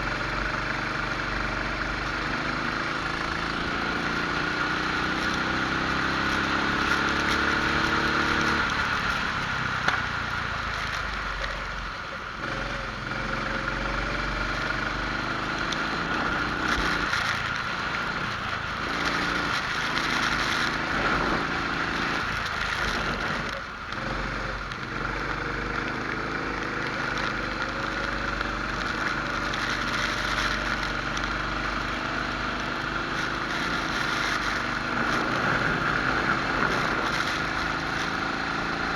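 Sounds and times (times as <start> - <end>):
kart engine accelerating: 0.0 - 11.6, 12.3 - 38.9.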